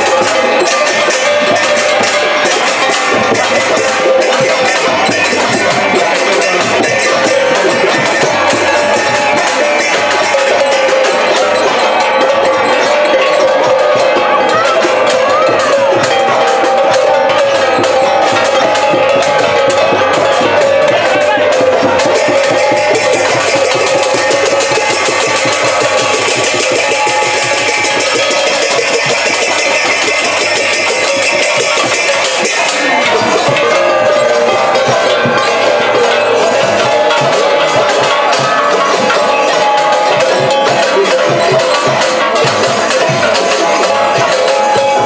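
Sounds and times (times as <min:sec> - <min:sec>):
drums beating: 0:00.0 - 0:45.0
hand cymbals striking: 0:00.0 - 0:45.0
sustained melody: 0:00.0 - 0:45.0.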